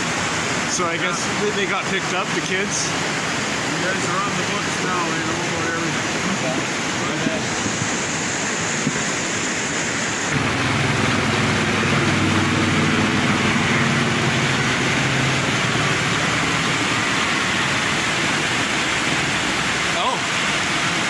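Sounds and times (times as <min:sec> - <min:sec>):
constant rushing noise: 0:00.0 - 0:21.0
engine running: 0:00.0 - 0:21.0.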